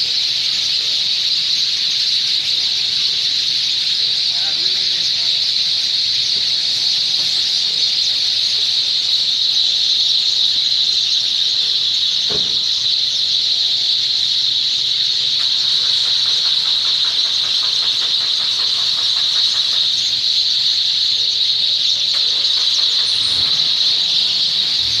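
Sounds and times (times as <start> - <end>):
flock of sparrows chirping: 0.0 - 25.0.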